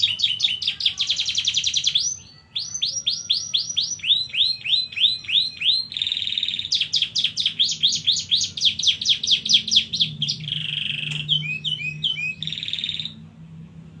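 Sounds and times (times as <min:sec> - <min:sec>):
canary singing trills: 0:00.0 - 0:13.3.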